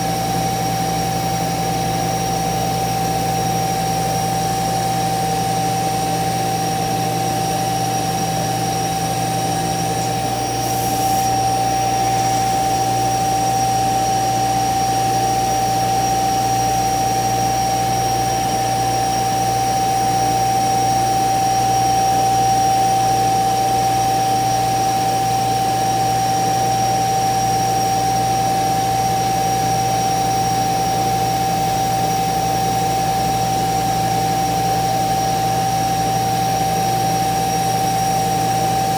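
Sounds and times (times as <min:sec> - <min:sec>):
low machine hum: 0:00.0 - 0:38.9
router spindle high whine: 0:00.0 - 0:38.9.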